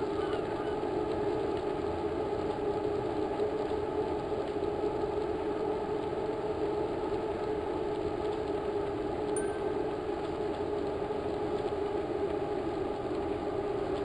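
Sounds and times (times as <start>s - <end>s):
steady mechanical drone: 0.0s - 14.0s.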